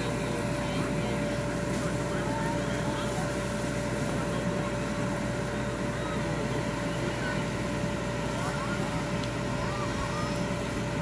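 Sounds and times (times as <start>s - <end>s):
faint distant voices: 0.0s - 11.0s
low outdoor background noise: 0.0s - 11.0s
steady high hum: 0.0s - 11.0s.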